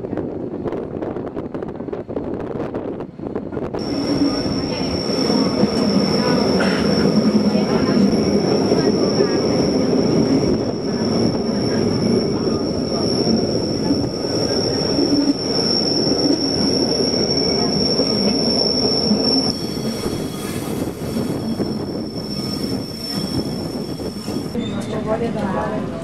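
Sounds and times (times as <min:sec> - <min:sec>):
train wheels rumbling on track: 0:00.0 - 0:26.0
high wheel squeal: 0:03.8 - 0:25.1.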